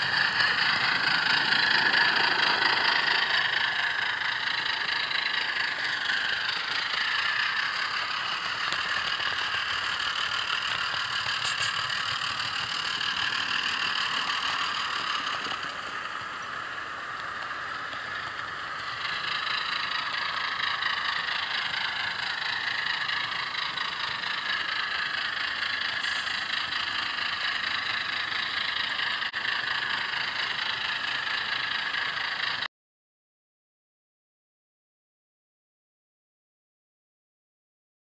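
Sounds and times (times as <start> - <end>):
diesel engine sound from small speaker: 0.0 - 32.7.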